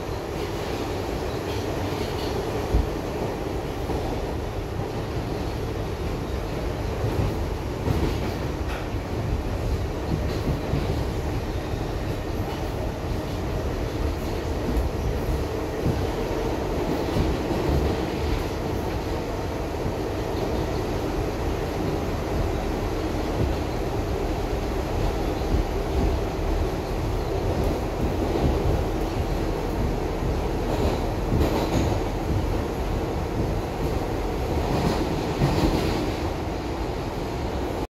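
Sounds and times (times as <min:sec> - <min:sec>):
subway wheels rumbling on rails: 0:00.0 - 0:37.9.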